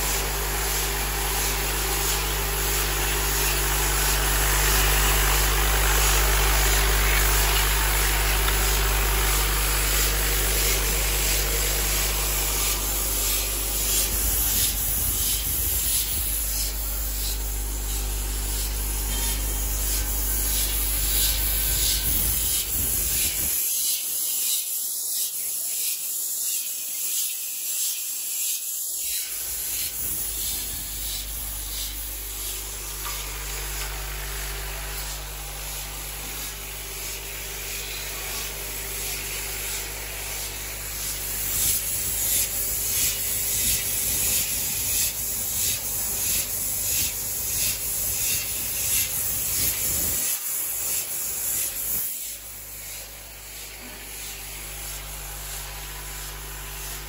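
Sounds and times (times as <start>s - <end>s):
machine hissing and rasping: 0.0s - 57.0s.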